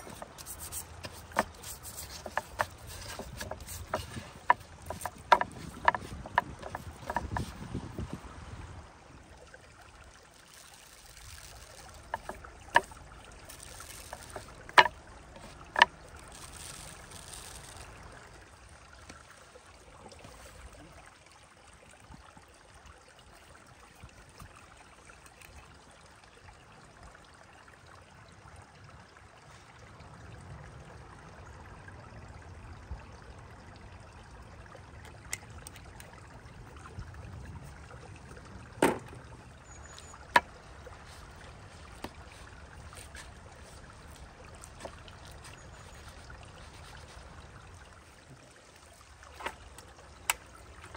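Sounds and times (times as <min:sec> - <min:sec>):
stream trickling: 0:00.0 - 0:50.9.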